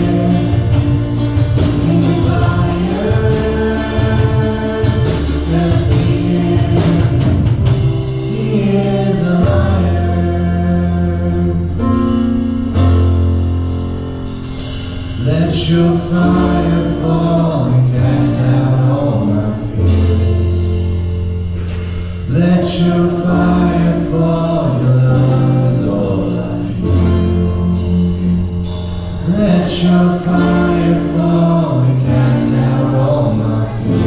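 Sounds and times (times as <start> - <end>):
voices singing: 0.0 - 12.1, 15.2 - 21.0, 22.2 - 34.0
keyboard and guitar: 0.0 - 34.0
low bass notes: 0.0 - 34.0.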